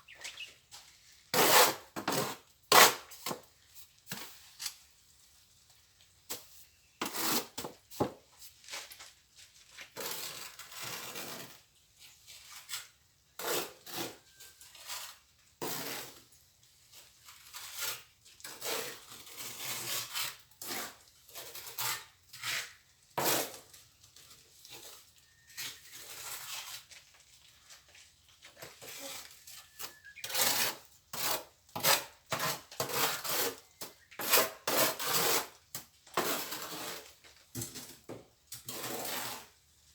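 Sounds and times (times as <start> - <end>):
trowel scraping mortar: 1.3 - 4.8, 6.3 - 9.0, 9.7 - 39.6.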